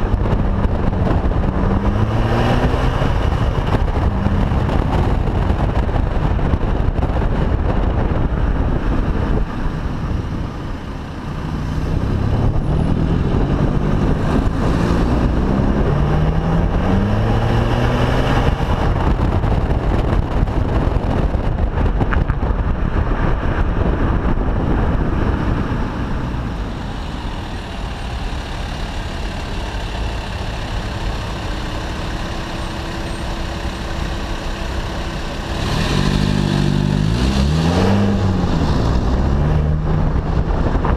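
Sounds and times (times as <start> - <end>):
diesel car engine accelerating: 0.0 - 40.9.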